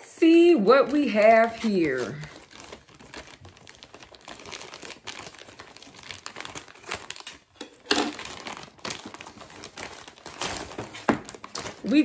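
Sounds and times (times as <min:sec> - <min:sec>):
plastic bag crinkling: 0:00.2 - 0:12.0
scissors cutting plastic: 0:01.0 - 0:12.0.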